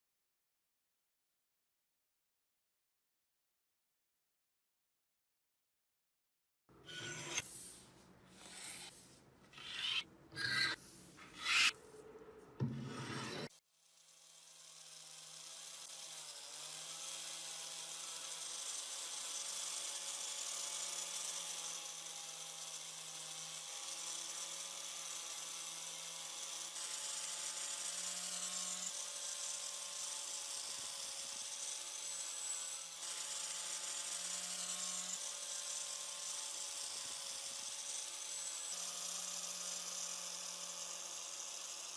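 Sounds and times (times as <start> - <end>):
small electric power tool: 6.8 - 11.8, 13.0 - 41.9.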